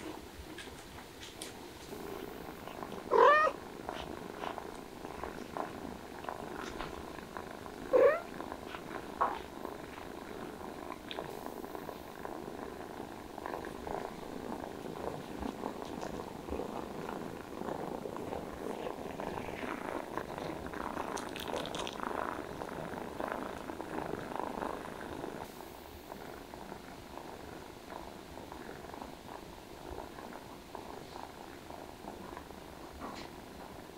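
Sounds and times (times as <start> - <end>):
cat purring: 0.0 - 33.9
faint clicks and rustles: 0.0 - 33.9.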